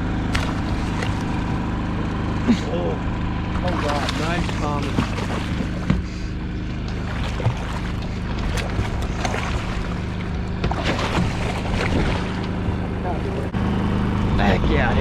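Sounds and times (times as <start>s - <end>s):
portable generator humming: 0.0s - 15.0s.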